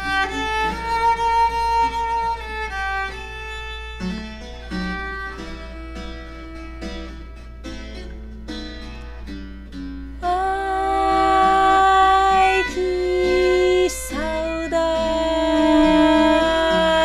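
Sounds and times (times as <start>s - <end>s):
long held melody notes: 0.0s - 17.0s
plucked guitar notes: 0.0s - 17.0s.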